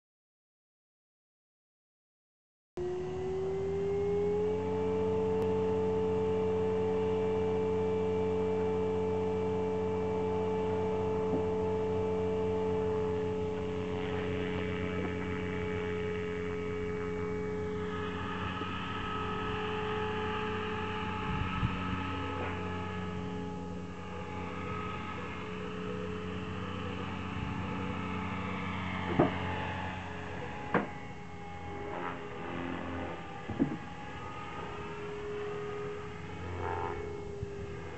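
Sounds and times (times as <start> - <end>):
rc helicopter motor and rotor whine: 2.8 - 37.9.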